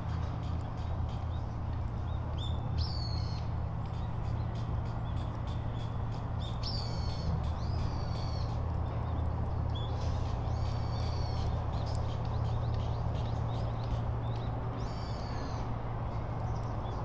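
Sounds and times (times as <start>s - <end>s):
birds calling: 0.1s - 15.7s.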